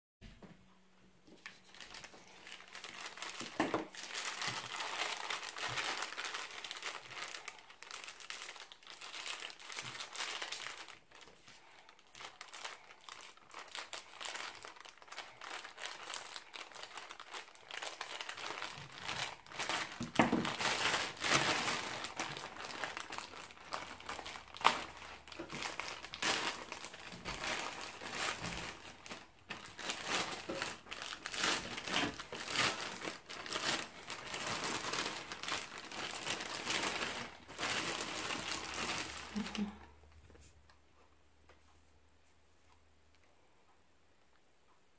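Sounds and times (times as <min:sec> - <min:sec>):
plastic mailer bag crinkling: 0:01.4 - 0:39.9.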